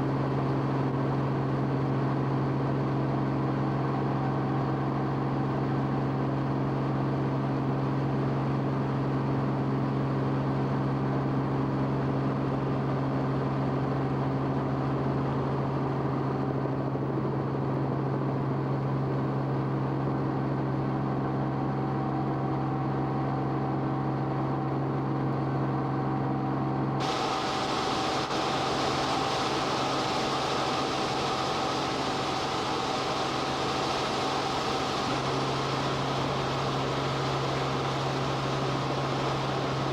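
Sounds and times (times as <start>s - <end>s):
aircraft engine and cabin drone: 0.0s - 39.9s.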